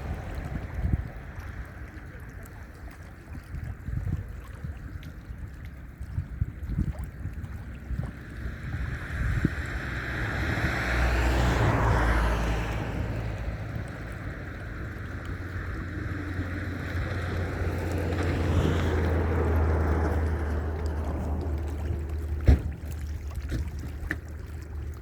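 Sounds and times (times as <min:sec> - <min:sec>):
wind buffeting microphone: 0:00.0 - 0:24.4.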